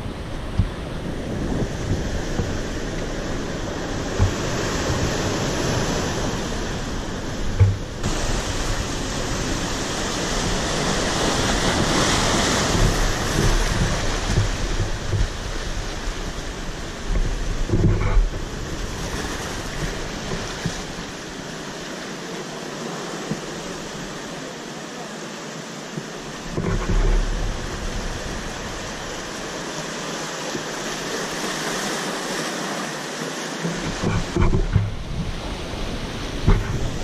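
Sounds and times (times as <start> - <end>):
wind buffeting microphone: 0.0 - 21.8, 26.2 - 31.6, 33.6 - 37.0
surf breaking over rocks: 0.0 - 37.0.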